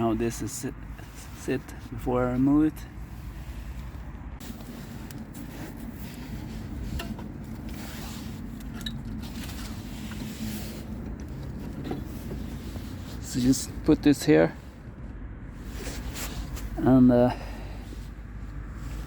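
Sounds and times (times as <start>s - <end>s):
brake parts scraping and clicking: 0.2s - 17.0s.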